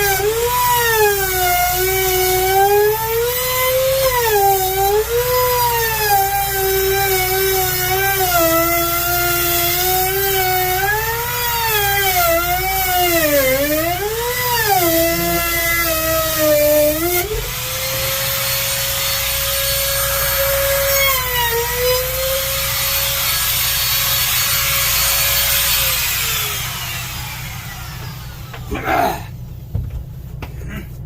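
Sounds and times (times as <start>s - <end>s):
router cutting wood: 0.0s - 29.0s.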